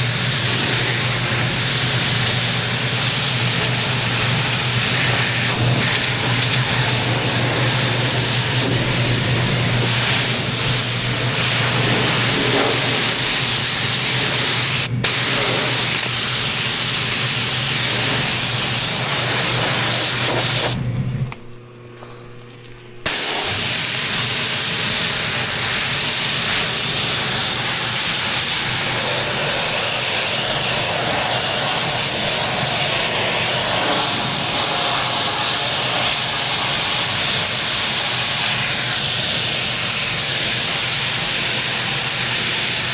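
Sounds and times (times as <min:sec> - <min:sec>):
pressure washer spraying water: 0:00.0 - 0:42.9.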